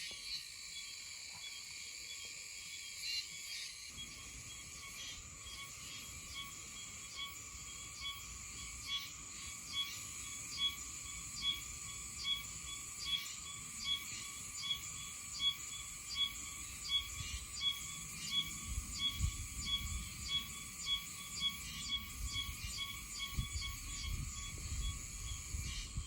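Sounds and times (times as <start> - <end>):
cicada calling in pulses: 0.0 - 26.0
high insect hum: 0.0 - 26.0.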